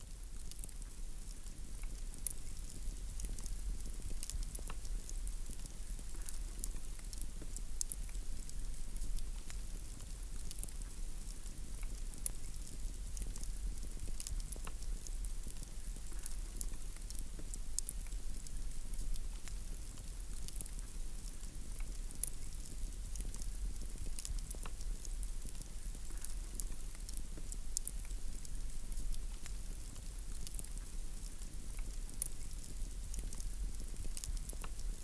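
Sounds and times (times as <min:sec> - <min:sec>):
crackle of clicks and pops: 0:00.1 - 0:35.0.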